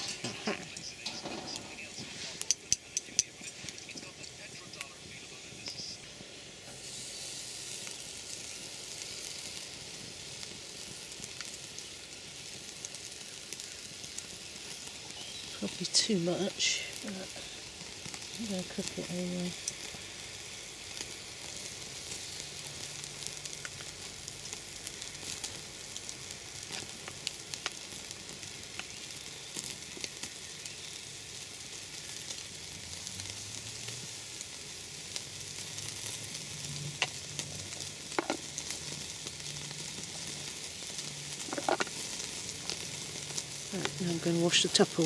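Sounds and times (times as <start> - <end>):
fire crackles and pops: 0.0 - 45.0
meat sizzling on grill: 0.0 - 45.0.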